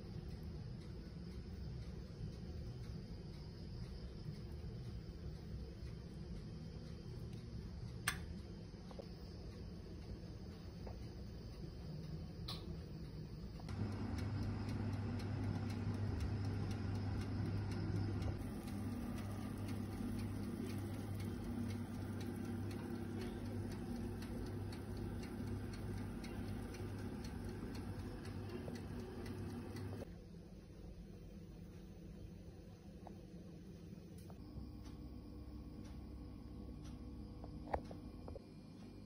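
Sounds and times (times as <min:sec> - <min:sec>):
oven ticking: 0:00.0 - 0:30.1, 0:34.4 - 0:39.0
oven humming: 0:00.0 - 0:39.0.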